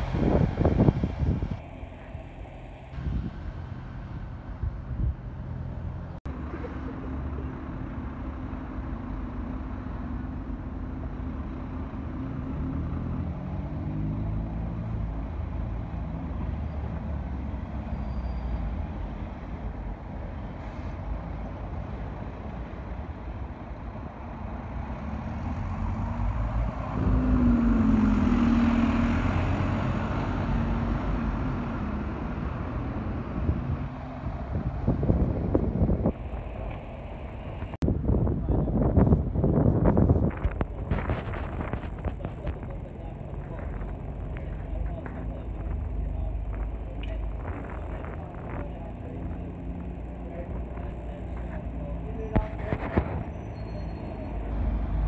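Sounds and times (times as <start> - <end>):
diesel engines running: 0.0 - 55.0
street traffic passing: 0.0 - 55.0
tyres on road: 0.0 - 55.0.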